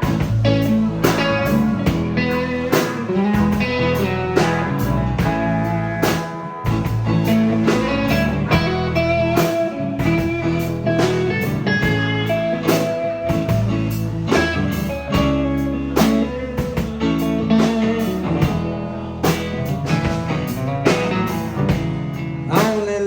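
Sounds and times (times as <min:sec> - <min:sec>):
country guitar with bass and drums: 0:00.0 - 0:23.0.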